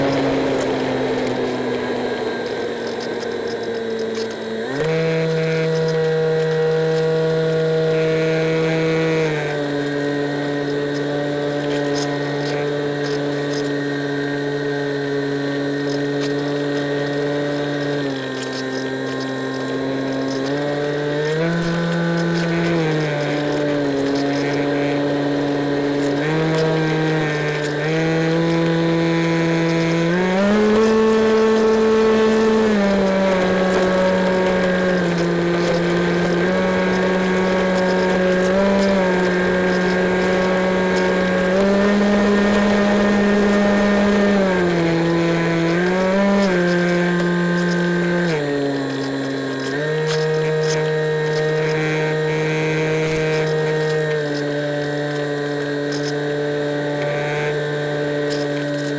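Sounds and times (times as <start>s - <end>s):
electric propeller motor buzzing: 0.0s - 58.9s.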